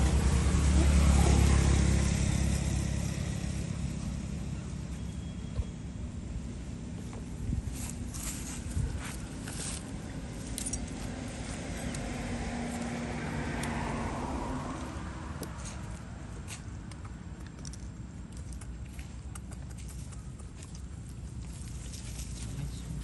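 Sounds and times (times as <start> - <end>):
low steady rumble: 0.0 - 23.0
passing motor vehicle engine: 0.0 - 23.0.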